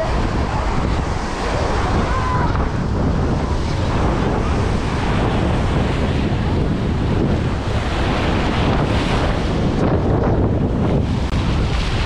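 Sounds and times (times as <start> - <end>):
sea surf: 0.0 - 12.0
wind on microphone: 0.0 - 12.0.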